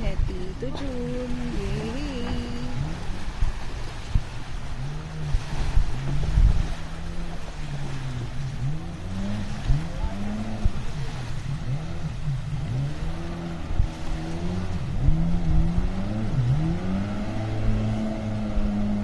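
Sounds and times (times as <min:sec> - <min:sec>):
jet ski engine revving: 0:00.0 - 0:19.0.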